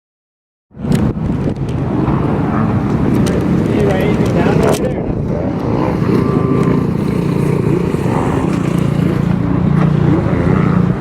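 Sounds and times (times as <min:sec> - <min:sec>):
road noise: 0:00.7 - 0:11.0
car engine drone: 0:00.9 - 0:11.0.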